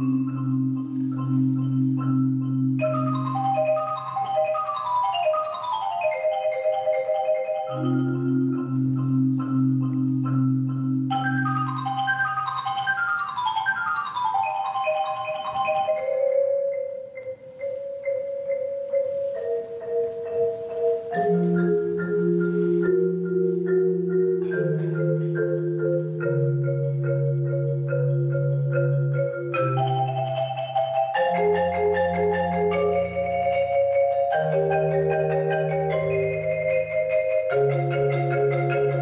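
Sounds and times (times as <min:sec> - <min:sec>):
marimbas playing: 0:00.0 - 0:39.0.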